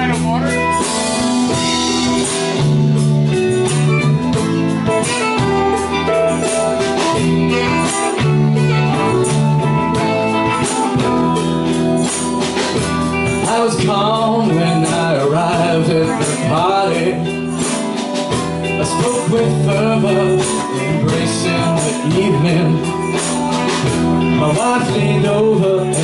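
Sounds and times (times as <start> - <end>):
bass line: 0.0 - 26.0
guitar playing: 0.0 - 26.0
steady drum beat: 0.0 - 26.0.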